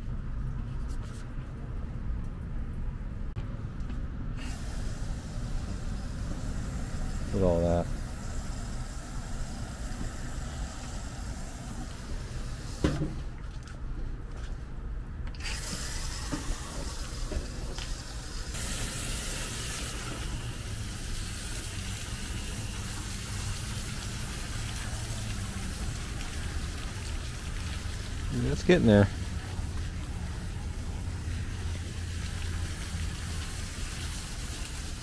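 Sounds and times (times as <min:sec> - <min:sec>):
hose spraying water: 0:04.4 - 0:13.4, 0:15.4 - 0:35.0.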